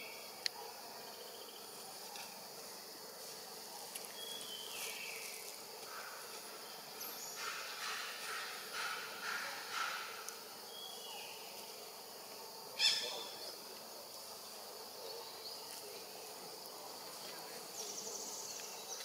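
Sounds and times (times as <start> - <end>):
insects humming high-pitched: 0.0 - 19.0.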